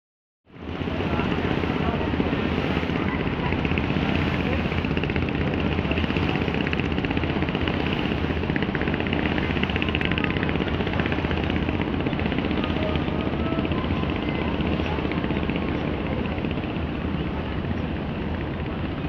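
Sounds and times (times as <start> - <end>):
ship diesel engine throbbing: 0.6 - 19.0.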